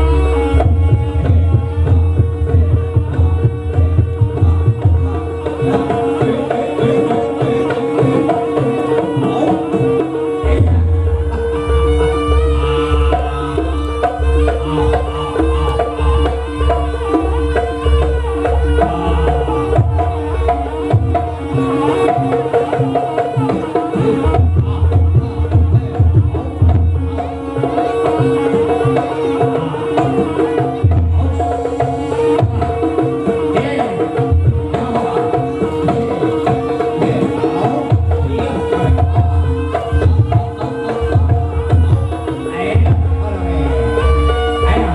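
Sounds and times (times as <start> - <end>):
hand drums: 0.0 - 44.9
held tone and melody: 0.0 - 44.9.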